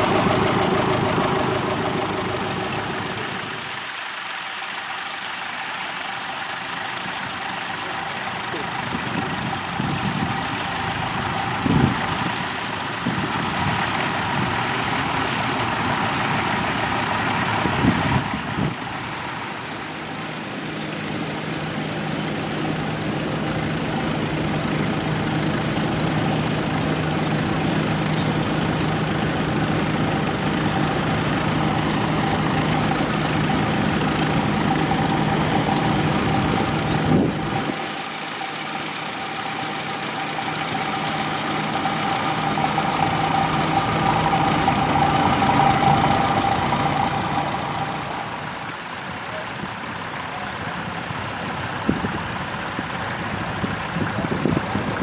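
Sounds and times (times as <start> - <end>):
second tractor approaching: 0.0 - 55.0
tractor engine running: 0.0 - 55.0.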